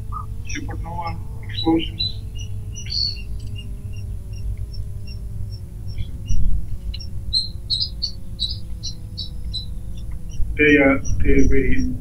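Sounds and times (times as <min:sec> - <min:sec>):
low room rumble: 0:00.0 - 0:12.0
small birds chirping: 0:00.0 - 0:12.0.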